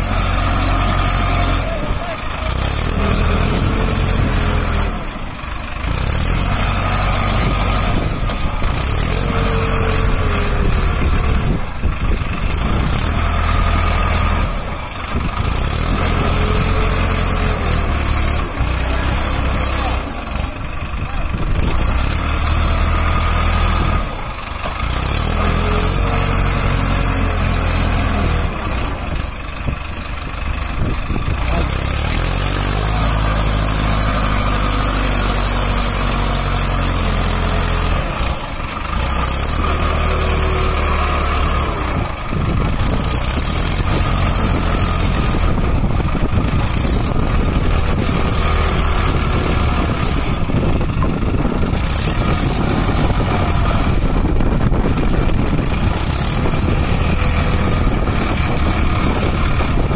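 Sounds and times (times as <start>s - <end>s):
tractor diesel engine revving: 0.0s - 59.9s.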